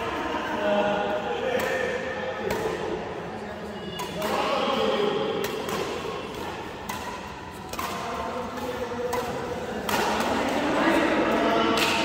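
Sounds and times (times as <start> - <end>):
rackets hitting shuttlecock: 1.4 - 3.2, 3.9 - 12.0.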